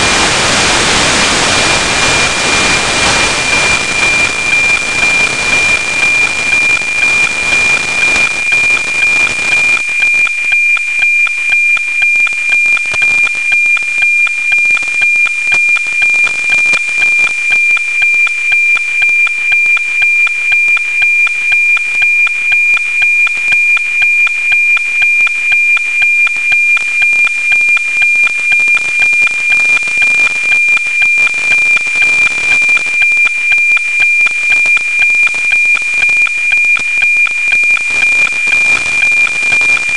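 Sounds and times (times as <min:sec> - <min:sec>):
steady tone with rhythmic ticking: 0:01.6 - 0:39.9.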